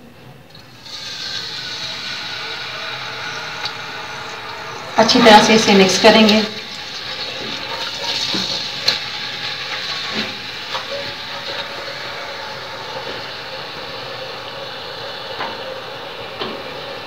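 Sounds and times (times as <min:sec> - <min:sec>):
paste sizzling in oil: 0:00.6 - 0:17.0.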